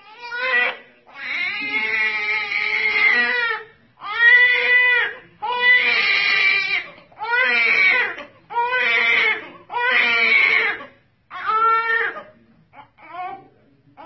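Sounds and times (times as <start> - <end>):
baby crying: 0.0 - 13.5.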